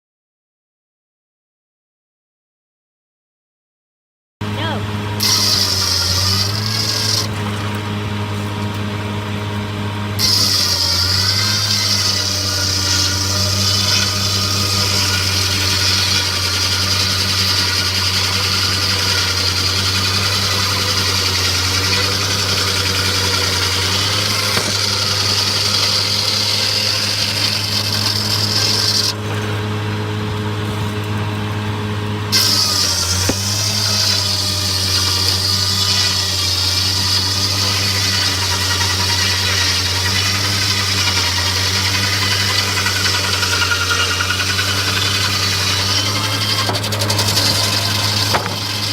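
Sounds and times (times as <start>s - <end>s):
sawmill machinery drone: 4.4s - 48.9s.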